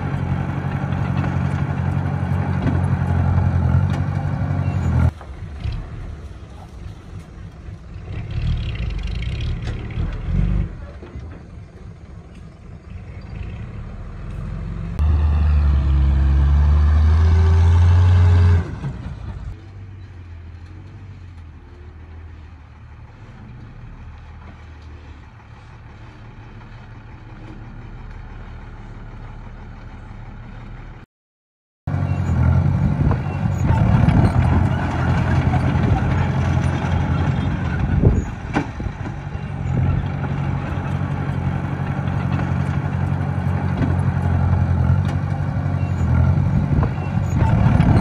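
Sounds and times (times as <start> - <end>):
heavy diesel engine: 0.0 - 31.1, 31.9 - 48.0.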